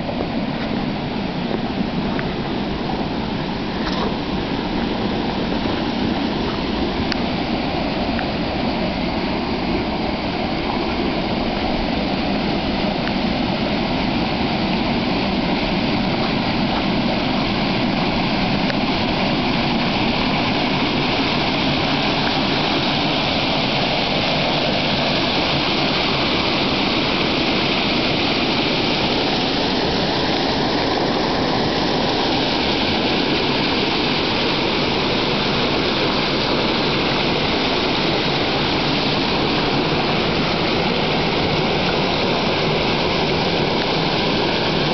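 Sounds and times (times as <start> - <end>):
water pouring into pond: 0.0 - 44.9.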